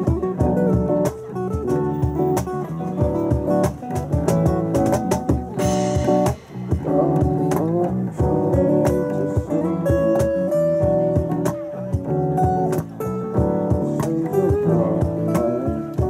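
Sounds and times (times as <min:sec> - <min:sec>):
cajon beat: 0:00.0 - 0:16.0
electric bass line: 0:00.0 - 0:16.0
strummed acoustic guitars: 0:00.0 - 0:16.0.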